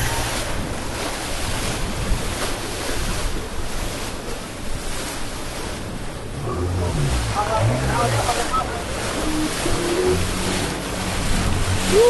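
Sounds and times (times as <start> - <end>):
floodwater rushing: 0.0 - 12.0
wind buffeting microphone: 0.0 - 12.0.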